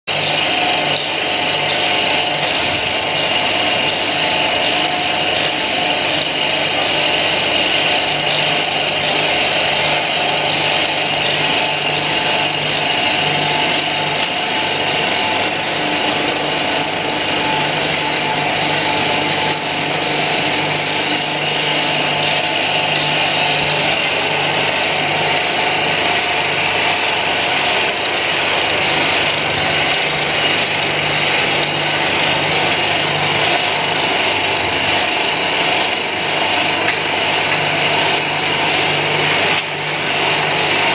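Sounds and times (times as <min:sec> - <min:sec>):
electric motor hum with whine: 0:00.1 - 0:40.9.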